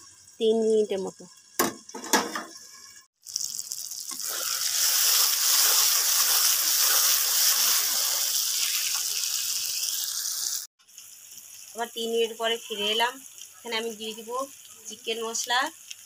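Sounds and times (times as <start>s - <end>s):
masala sizzling in hot oil: 0.0s - 16.0s.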